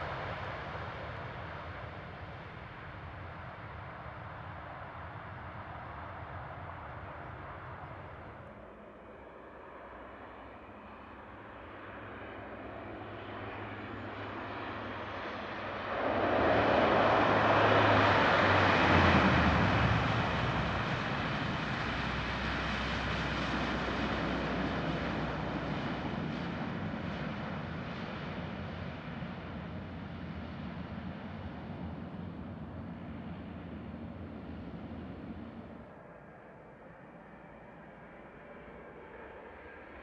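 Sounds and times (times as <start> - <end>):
turboprop airliner landing: 0.0 - 40.0.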